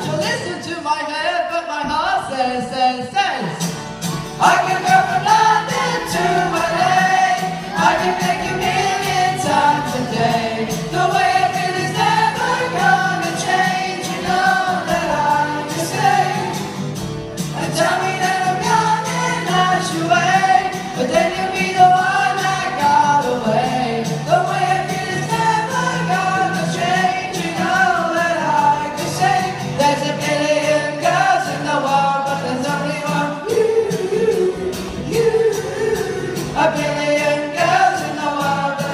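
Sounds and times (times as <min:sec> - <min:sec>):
pop band playing live: 0:00.0 - 0:38.9
voices singing together: 0:04.2 - 0:38.9.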